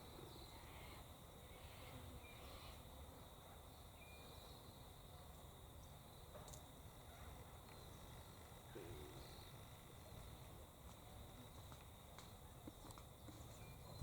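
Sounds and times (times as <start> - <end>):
faint high-pitched hum: 0.0 - 14.0.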